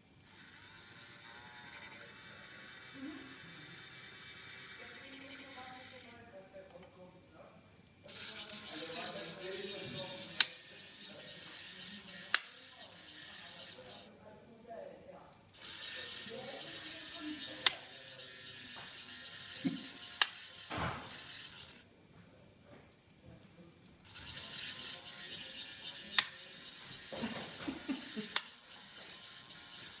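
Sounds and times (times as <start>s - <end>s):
toy electric motor running: 0.2s - 6.2s, 8.0s - 14.1s, 15.5s - 21.8s, 24.0s - 30.0s.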